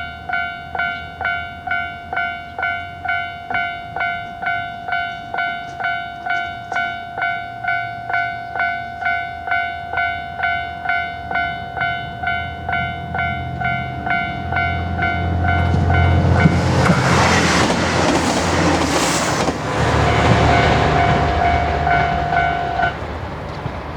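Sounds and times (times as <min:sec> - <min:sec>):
level-crossing warning bell: 0:00.0 - 0:23.9.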